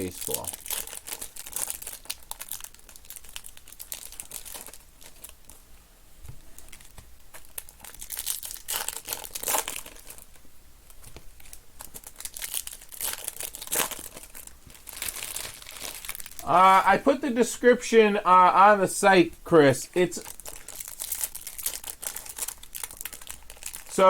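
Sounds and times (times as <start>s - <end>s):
wrappers crinkling and tearing: 0.0s - 5.6s, 6.4s - 16.8s, 20.1s - 24.0s.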